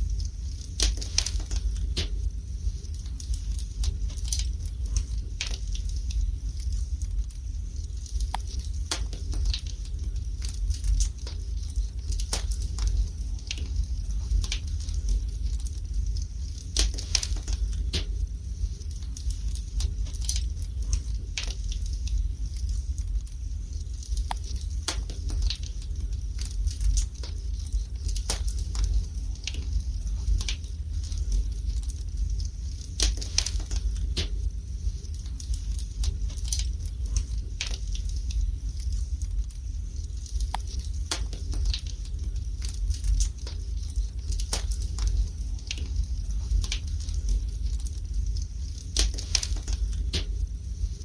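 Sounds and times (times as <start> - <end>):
low rumble of flames: 0.0 - 51.0
wood fire crackling and popping: 0.0 - 51.0.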